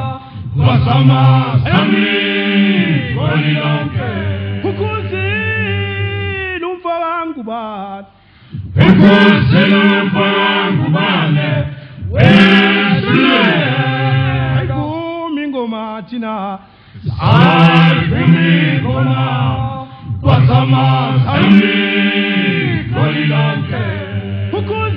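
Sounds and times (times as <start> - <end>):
male a cappella choir singing: 0.0 - 6.6, 7.4 - 24.9.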